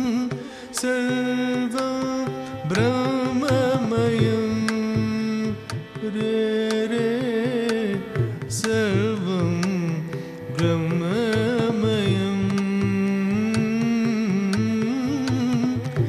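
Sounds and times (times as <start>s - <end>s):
hand drum strokes: 0.0s - 16.0s.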